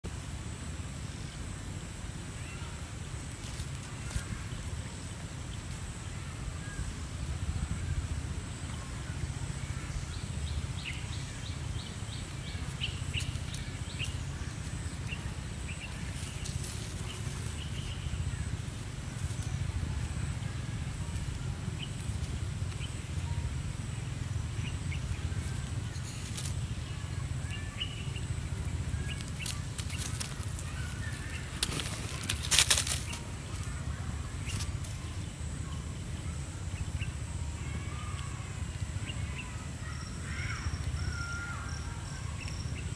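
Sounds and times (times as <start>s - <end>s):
low rumble on microphone: 3.9s - 39.9s.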